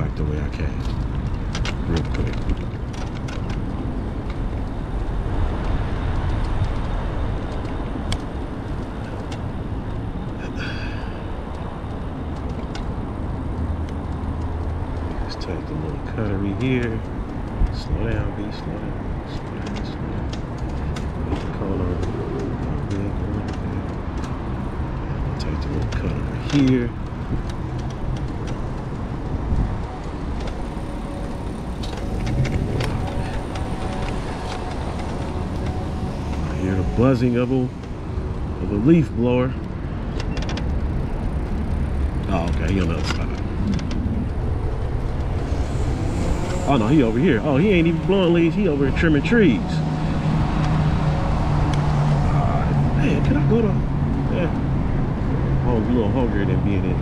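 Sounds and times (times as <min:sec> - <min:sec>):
low rumble: 0:00.0 - 0:57.0
passing traffic road noise: 0:00.0 - 0:57.0.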